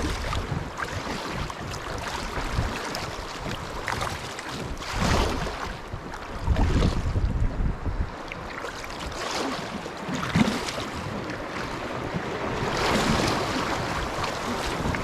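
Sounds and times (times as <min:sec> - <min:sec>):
stream water splashing: 0:00.0 - 0:07.4, 0:08.1 - 0:15.0.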